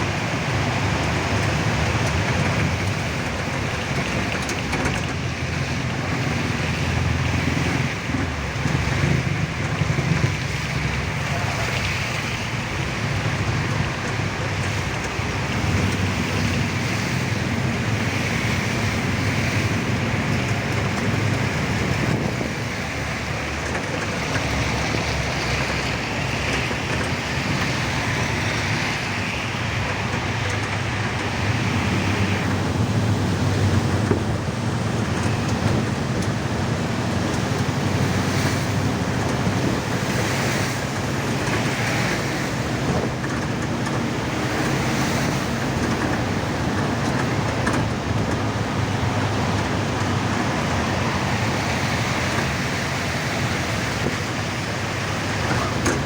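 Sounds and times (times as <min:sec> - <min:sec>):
traffic on a wet road: 0:00.0 - 0:56.0.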